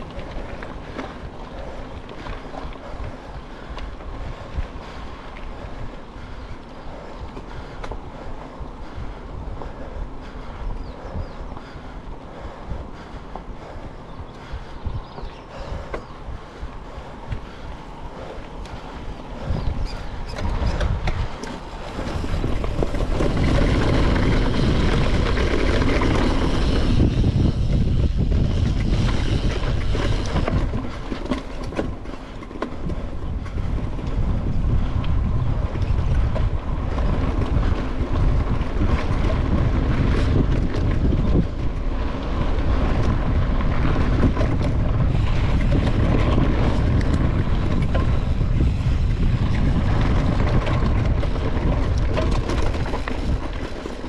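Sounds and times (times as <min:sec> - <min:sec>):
bike rattling: 0:00.0 - 0:54.0
bike tyres on gravel: 0:00.0 - 0:54.0
wind buffeting microphone: 0:00.0 - 0:54.0.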